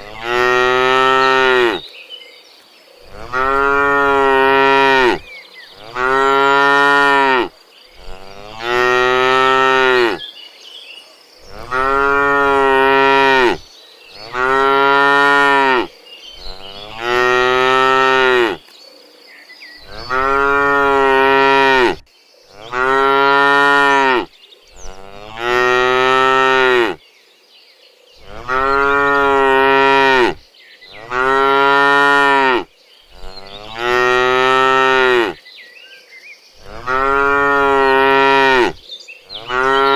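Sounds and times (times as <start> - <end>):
cows mooing: 0.0 - 1.8, 3.1 - 5.2, 5.8 - 10.2, 11.5 - 13.6, 14.2 - 18.6, 19.8 - 27.0, 28.2 - 35.4, 36.6 - 38.8, 39.4 - 39.9.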